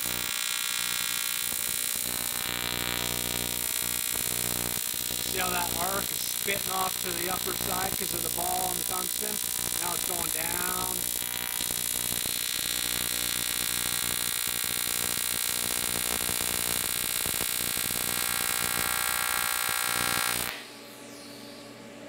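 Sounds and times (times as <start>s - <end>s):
welding arc buzzing: 0.0s - 20.6s.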